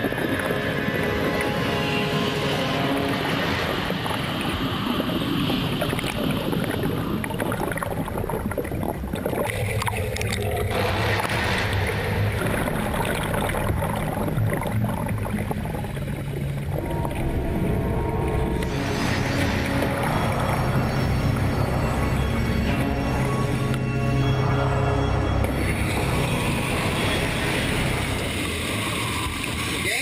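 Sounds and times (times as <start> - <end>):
water bubbling underwater: 0.0 - 29.8.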